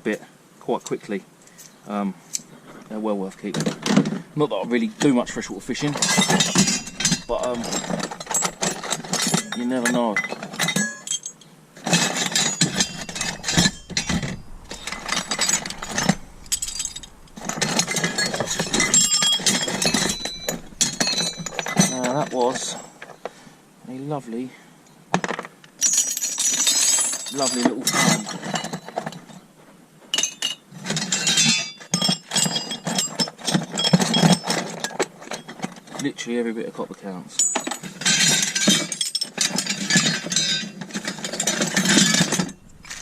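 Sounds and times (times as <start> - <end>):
scrap metal clinking: 3.5 - 23.4, 25.3 - 29.5, 30.1 - 36.2, 37.3 - 43.0.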